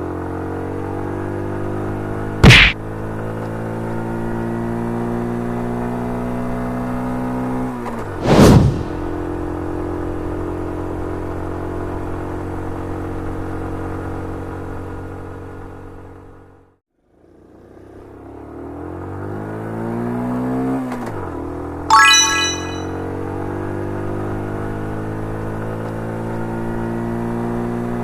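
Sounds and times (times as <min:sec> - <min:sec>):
car engine running and revving: 0:00.0 - 0:08.2, 0:09.1 - 0:21.8, 0:23.9 - 0:28.0.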